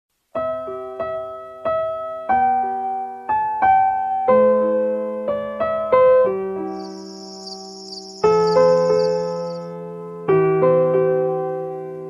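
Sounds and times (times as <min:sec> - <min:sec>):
slow gentle piano melody: 0:00.2 - 0:12.0.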